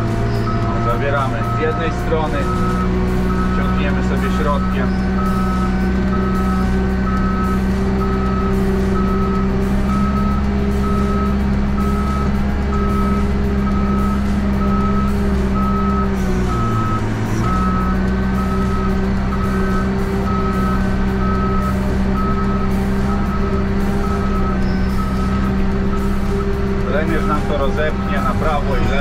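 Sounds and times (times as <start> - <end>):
diesel engine running under load: 0.0 - 29.0
reversing alarm beeping: 0.0 - 29.0.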